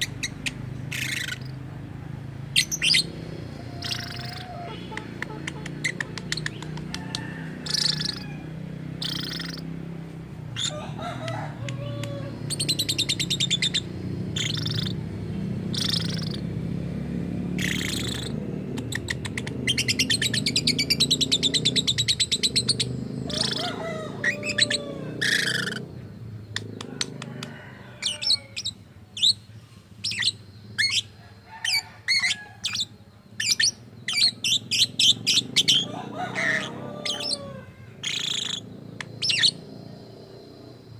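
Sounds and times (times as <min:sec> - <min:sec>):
lovebird screeching and chirping: 0:00.0 - 0:01.7, 0:02.5 - 0:09.9, 0:10.5 - 0:16.6, 0:17.6 - 0:40.0.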